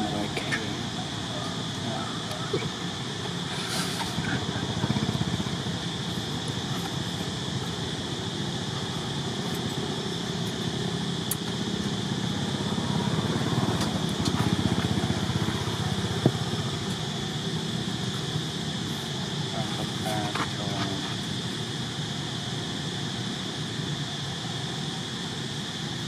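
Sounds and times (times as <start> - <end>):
motor drone: 0.0 - 26.0.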